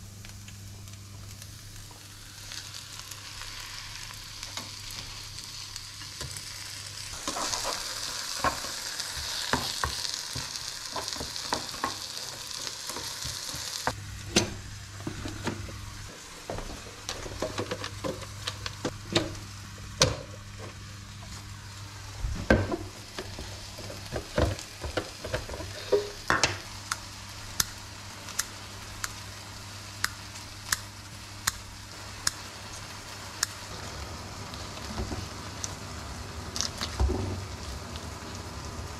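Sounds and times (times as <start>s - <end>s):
meat sizzling in a pan: 0.0s - 38.9s.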